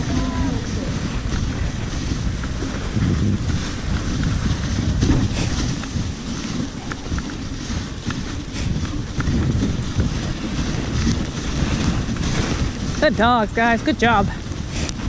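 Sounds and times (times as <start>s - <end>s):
sled rumbling over snow: 0.0s - 15.0s
wind buffeting microphone: 0.0s - 15.0s.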